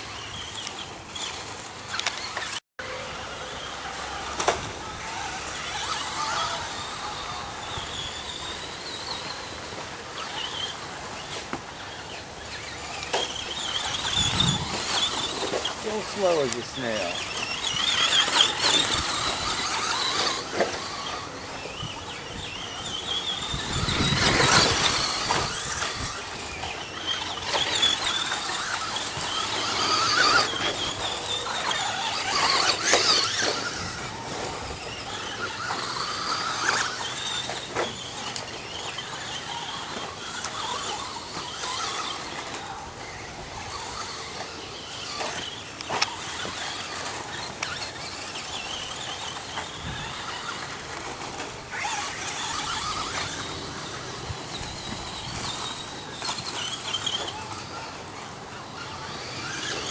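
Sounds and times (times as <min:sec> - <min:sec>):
electric motor and gear whine: 0:00.0 - 0:59.9.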